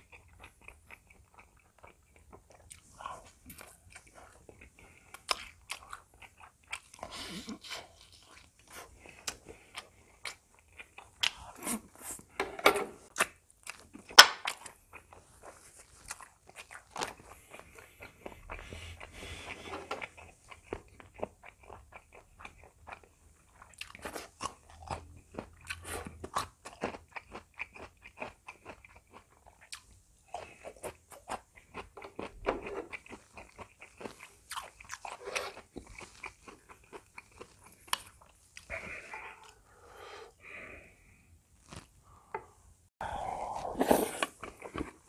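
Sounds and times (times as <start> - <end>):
person chewing food: 0.0 - 12.4, 13.0 - 40.4, 41.0 - 45.0.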